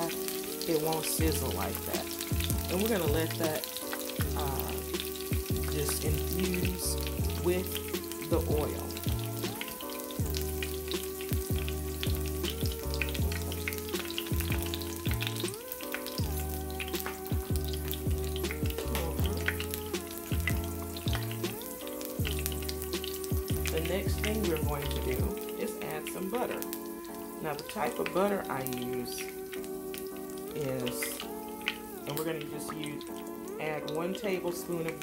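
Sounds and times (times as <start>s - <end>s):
background music with bass: 0.0s - 35.0s
herbs sizzling in oil: 0.0s - 35.0s.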